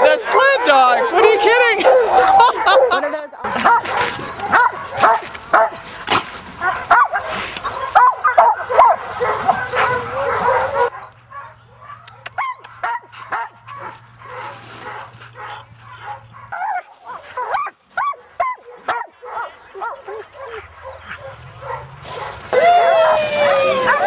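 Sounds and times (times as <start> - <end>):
sled dogs barking and yipping: 0.0 - 24.0.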